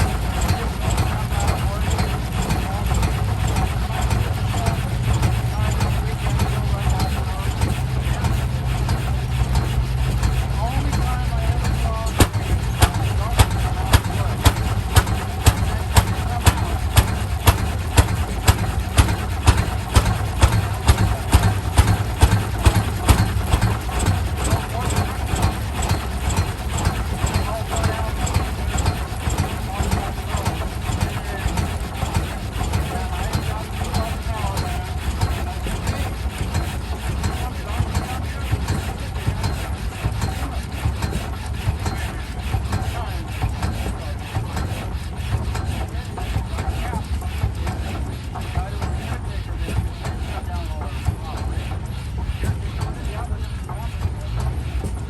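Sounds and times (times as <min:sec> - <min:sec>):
tractor engine exhaust beats: 0:00.0 - 0:55.0.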